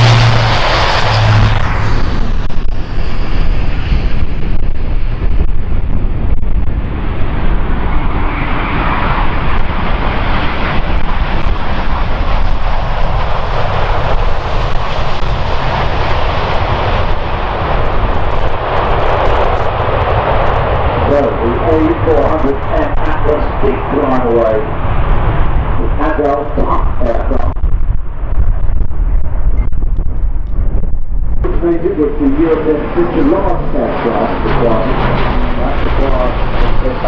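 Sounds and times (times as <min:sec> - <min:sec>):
turboprop aircraft taking off: 0:00.0 - 0:37.0.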